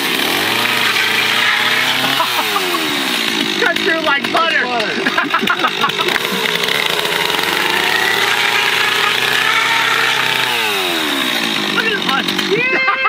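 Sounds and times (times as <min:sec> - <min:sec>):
chainsaw cutting foam board: 0:00.0 - 0:13.0.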